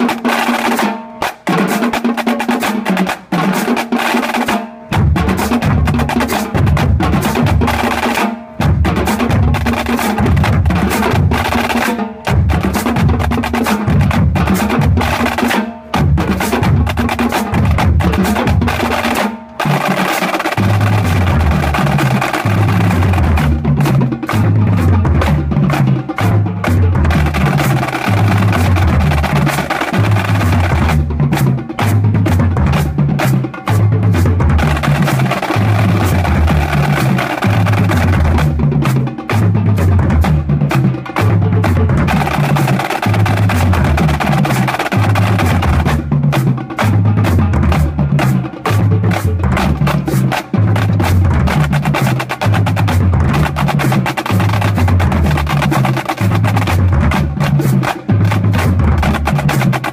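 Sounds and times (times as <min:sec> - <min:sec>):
snare drums rolling: 0:00.0 - 0:59.9.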